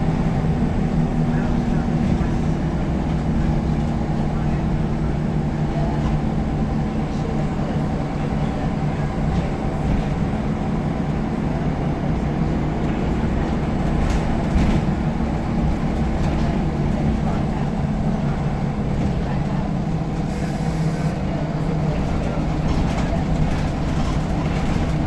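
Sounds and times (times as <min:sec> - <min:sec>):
bus diesel engine running: 0:00.0 - 0:25.0.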